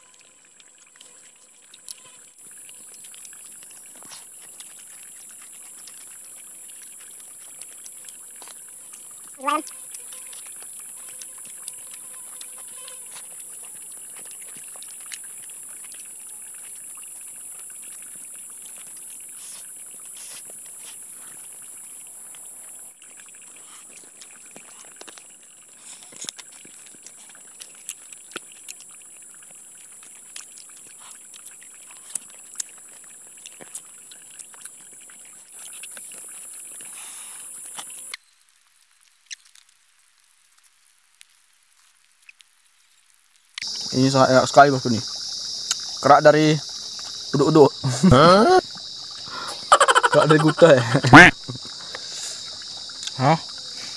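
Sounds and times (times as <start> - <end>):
forest insects droning: 0.0 - 38.2, 43.6 - 53.9.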